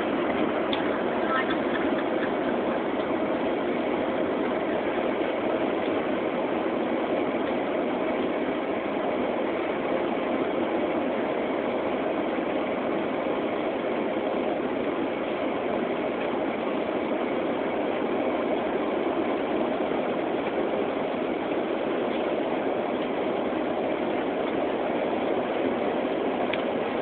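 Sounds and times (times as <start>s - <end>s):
airliner cabin engine drone: 0.0s - 27.0s.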